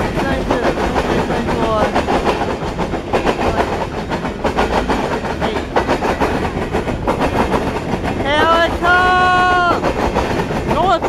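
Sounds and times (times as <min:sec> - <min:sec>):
freight train rumbling past: 0:00.0 - 0:11.0
wheels clicking over rail joints: 0:00.0 - 0:11.0.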